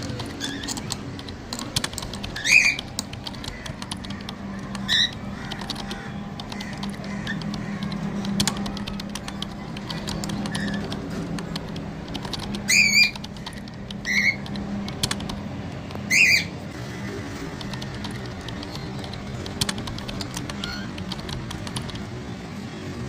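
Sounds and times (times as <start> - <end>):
small bird chirping: 0.0 - 15.3, 17.5 - 22.1.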